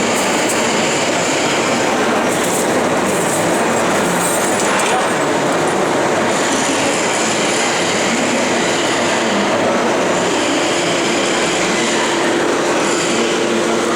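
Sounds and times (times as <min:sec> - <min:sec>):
lathe running: 0:00.0 - 0:13.9.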